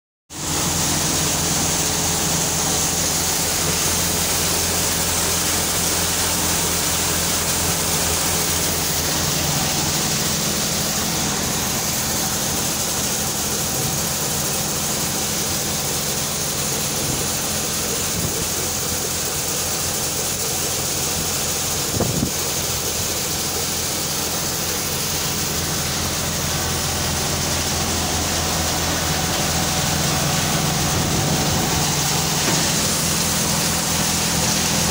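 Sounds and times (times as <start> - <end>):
thresher machine drone: 0.3 - 34.9.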